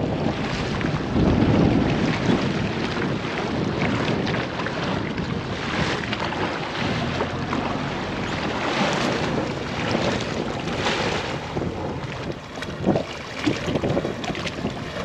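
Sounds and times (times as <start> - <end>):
water rushing past boat: 0.0 - 15.0
wind buffeting microphone: 0.0 - 15.0.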